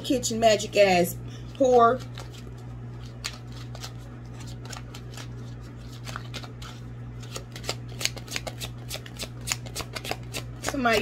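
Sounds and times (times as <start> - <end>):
cards being shuffled: 1.5 - 11.0.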